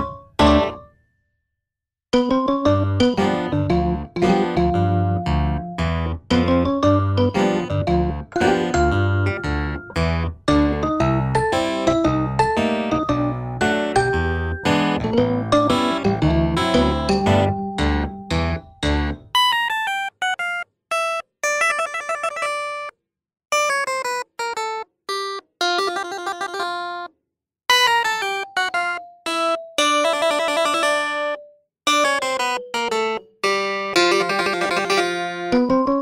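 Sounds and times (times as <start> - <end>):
instrumental melody of ringing notes: 2.2 - 22.9, 27.7 - 36.0.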